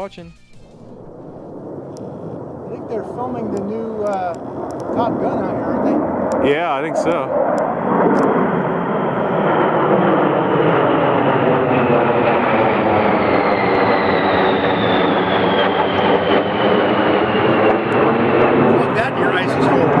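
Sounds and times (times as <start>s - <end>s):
jet fighters roaring overhead: 0.8s - 20.0s.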